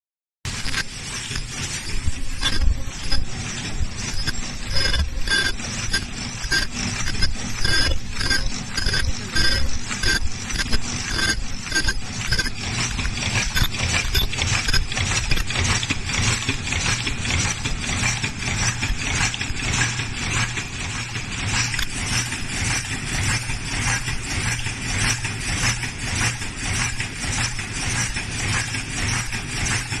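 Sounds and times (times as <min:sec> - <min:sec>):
low machine hum: 0:00.5 - 0:30.0
machine clattering: 0:00.5 - 0:30.0.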